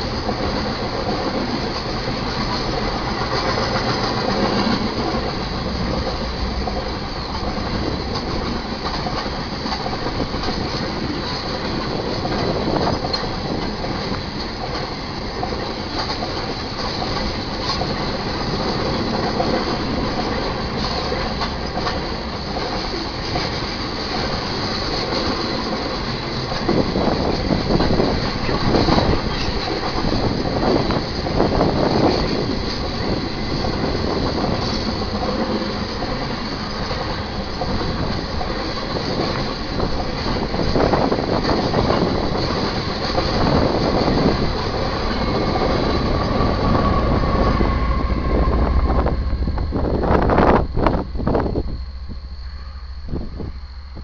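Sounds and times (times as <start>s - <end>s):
diesel locomotive engine: 0.0s - 54.0s
rail cars clanking and knocking: 0.0s - 54.0s
steel train wheels rumbling on rail: 0.0s - 54.0s.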